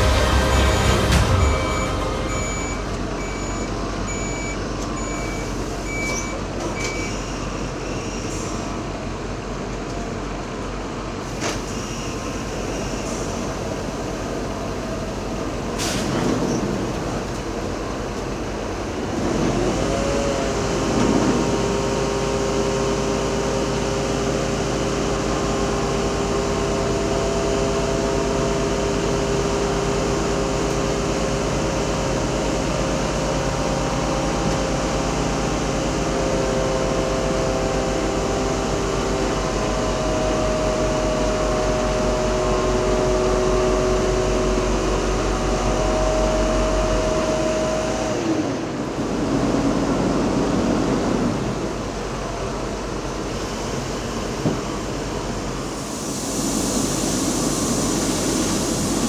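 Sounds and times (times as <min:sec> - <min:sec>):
diesel engine rumble: 0:00.0 - 0:59.0.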